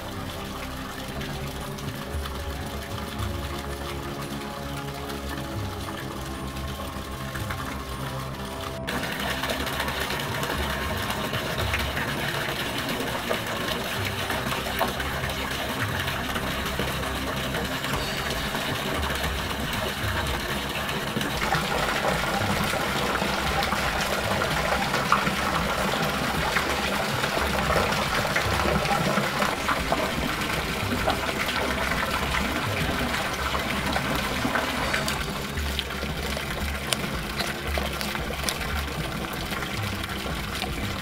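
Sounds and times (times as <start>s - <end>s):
low machine hum: 0.0s - 41.0s
water splashing from spout: 0.0s - 41.0s.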